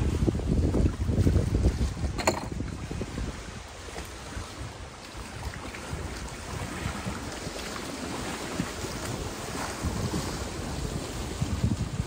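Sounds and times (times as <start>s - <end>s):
waves washing on rocky shore: 0.0s - 12.0s
wind on microphone: 0.0s - 12.0s.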